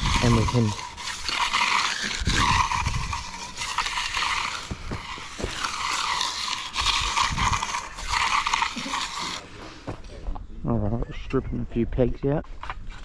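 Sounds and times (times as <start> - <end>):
tool scraping wet concrete: 0.0 - 10.0, 12.4 - 13.0.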